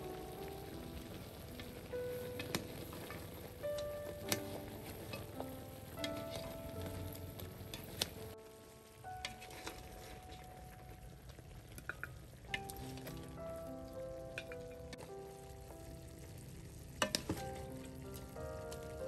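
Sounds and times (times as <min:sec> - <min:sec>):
food simmering sizzle: 0:00.0 - 0:19.0
soft background music: 0:00.0 - 0:19.0.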